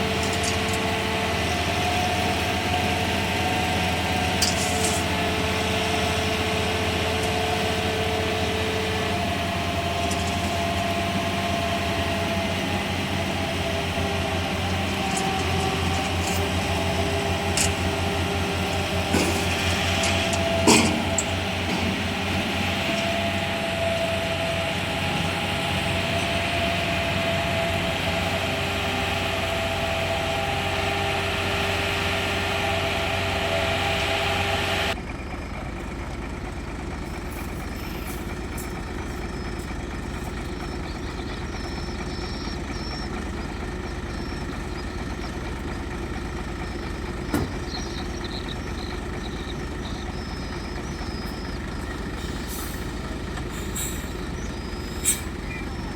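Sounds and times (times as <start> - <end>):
diesel construction machinery: 0.0 - 55.9
machinery whine: 0.0 - 55.9.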